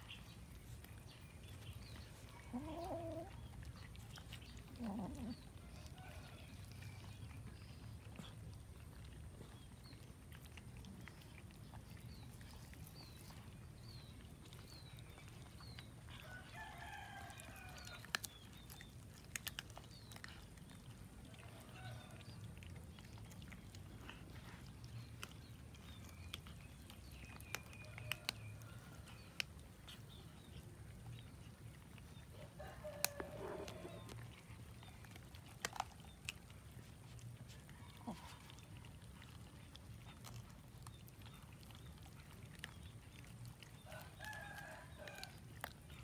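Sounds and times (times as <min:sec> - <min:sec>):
cats chewing raw chicken: 0:00.0 - 0:46.0.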